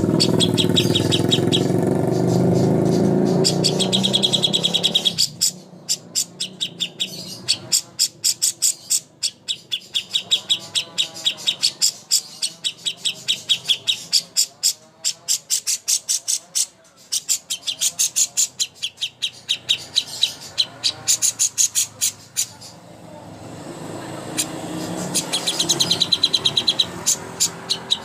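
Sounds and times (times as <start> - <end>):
songbird chattering: 0.0 - 28.0.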